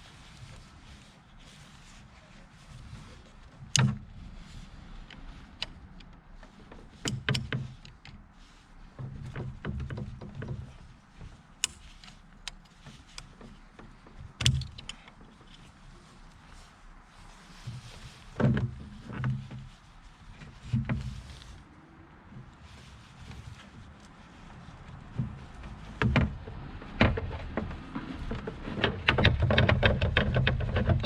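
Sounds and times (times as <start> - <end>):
dull thuds and shuffling: 0.0 - 31.0.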